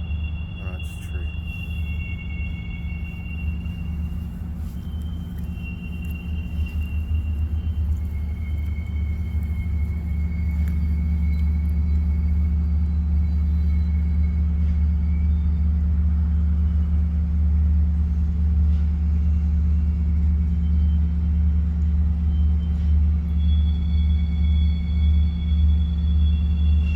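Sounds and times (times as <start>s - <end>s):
steady low rumble: 0.0s - 23.4s.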